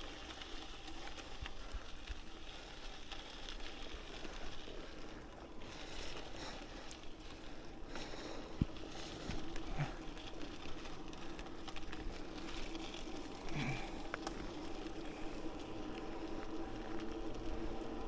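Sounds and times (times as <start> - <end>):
bicycle tyre noise: 0.0 - 18.0
faint constant hum: 0.0 - 18.0.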